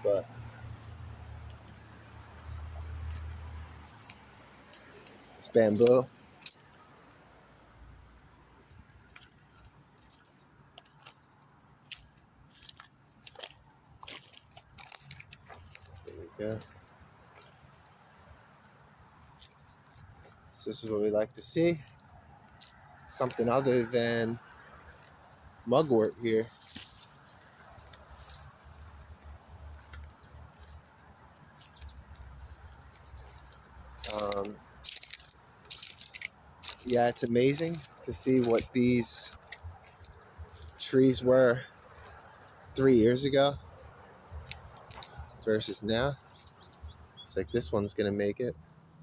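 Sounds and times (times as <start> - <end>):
insect chorus: 0.0 - 49.0.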